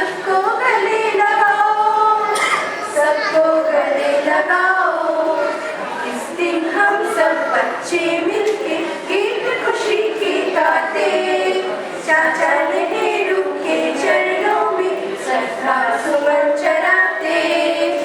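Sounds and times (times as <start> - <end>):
group singing in chorus: 0.0 - 18.0.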